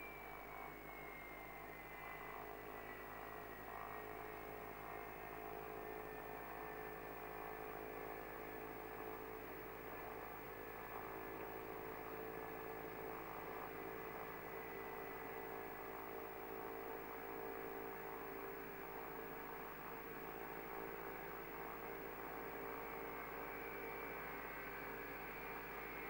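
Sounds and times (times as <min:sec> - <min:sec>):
distant jet engines whining: 0:00.0 - 0:26.0.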